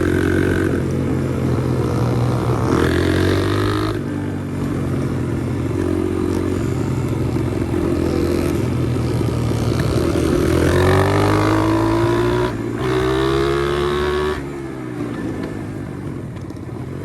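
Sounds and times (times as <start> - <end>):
motorbike engine accelerating: 0.0 - 17.0.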